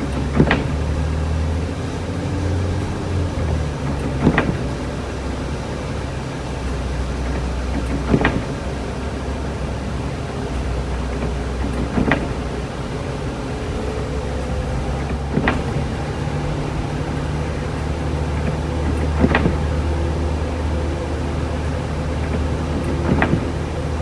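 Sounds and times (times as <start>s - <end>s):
car engine and road hum: 0.0s - 24.0s.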